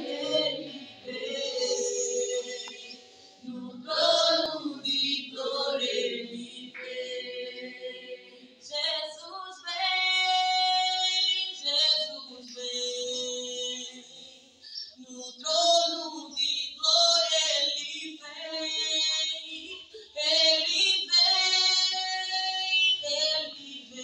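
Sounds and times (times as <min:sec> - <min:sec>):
women singing together: 0:00.0 - 0:24.0.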